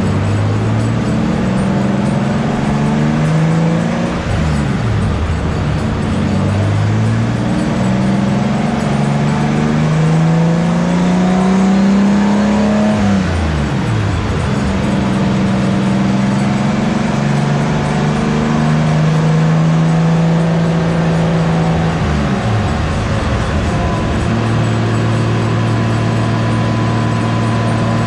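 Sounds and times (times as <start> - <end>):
car engine at full throttle: 0.0 - 28.0.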